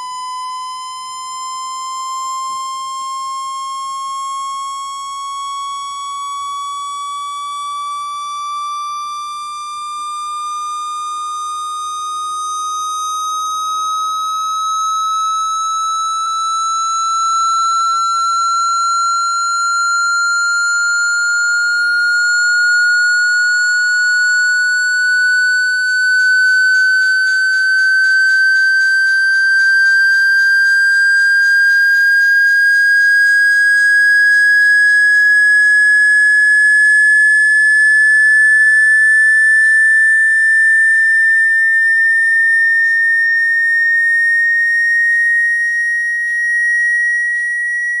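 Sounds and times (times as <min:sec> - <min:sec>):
rising electronic sine tone: 0:00.0 - 0:48.0.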